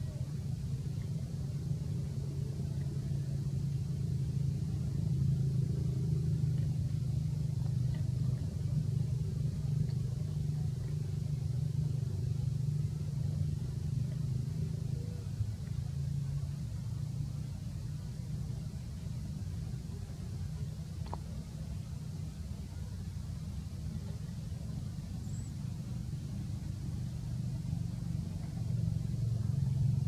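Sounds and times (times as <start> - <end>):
low engine hum: 0.0 - 30.0.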